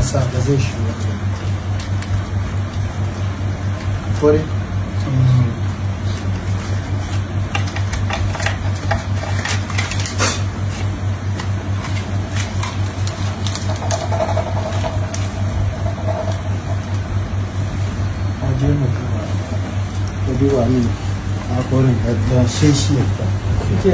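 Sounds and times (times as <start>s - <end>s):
pulsing mechanical hum: 0.0s - 23.9s.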